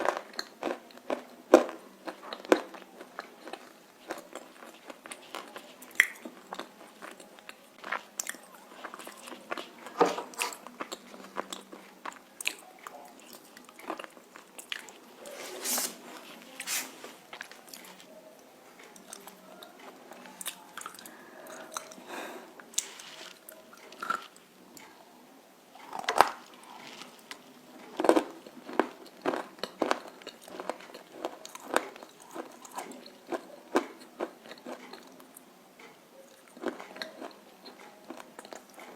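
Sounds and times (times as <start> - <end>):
chewing: 0.0 - 25.0, 25.7 - 38.9.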